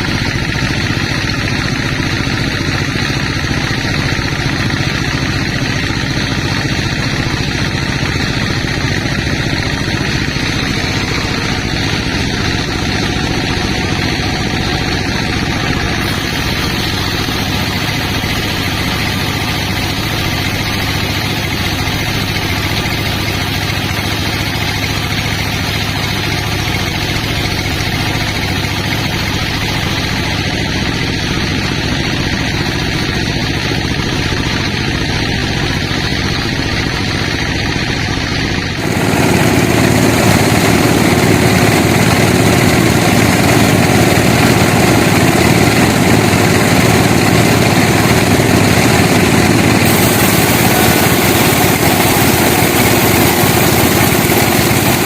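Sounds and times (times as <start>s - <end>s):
sawmill machinery humming: 0.0s - 55.0s
saw cutting wood: 5.1s - 31.7s, 34.4s - 55.0s.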